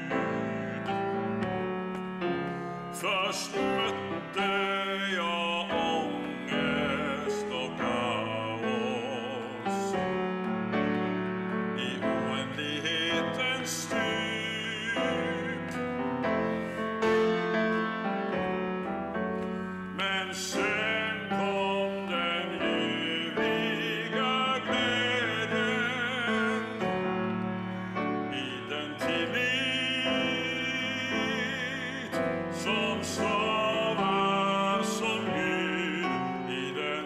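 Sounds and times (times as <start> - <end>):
man singing with vibrato: 0.0 - 18.0, 19.6 - 37.0
grand piano: 0.0 - 37.0.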